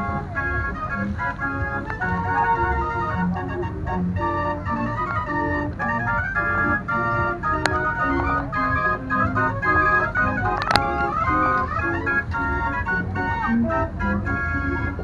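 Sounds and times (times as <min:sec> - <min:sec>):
organ music: 0:00.0 - 0:15.0.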